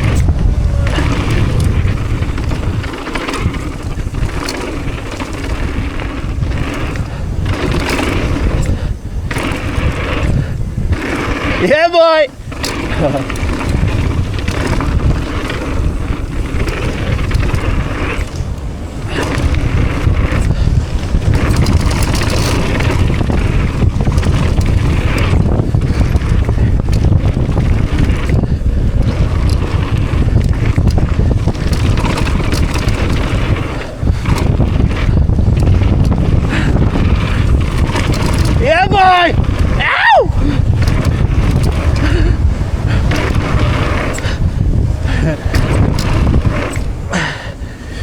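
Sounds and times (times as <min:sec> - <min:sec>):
bike clattering over rough trail: 0:00.0 - 0:48.0
tyres roaring: 0:00.0 - 0:48.0
wind buffeting microphone: 0:00.0 - 0:48.0.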